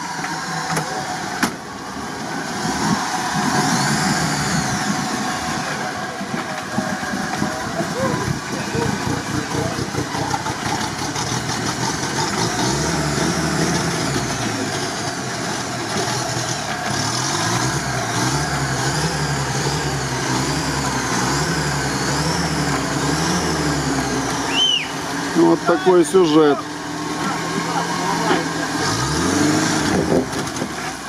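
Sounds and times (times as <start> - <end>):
truck engine revving under load: 0.0 - 31.0.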